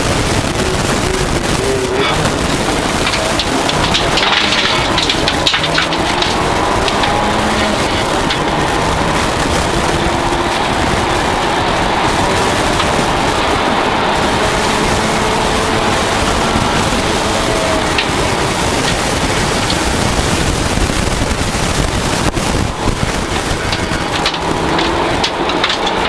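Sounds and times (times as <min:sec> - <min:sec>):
car engine running hard: 0:00.0 - 0:26.0
road and wind noise: 0:00.0 - 0:26.0.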